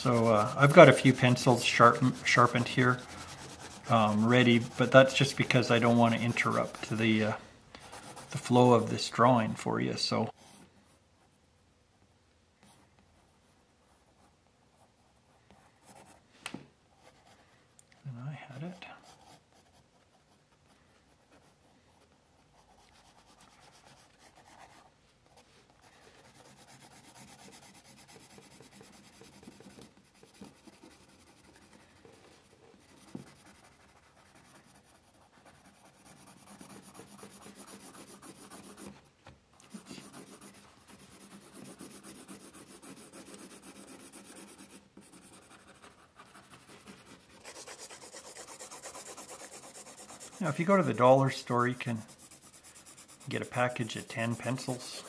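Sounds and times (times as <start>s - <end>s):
pencil scratching on paper: 0.0s - 9.6s, 18.6s - 55.0s.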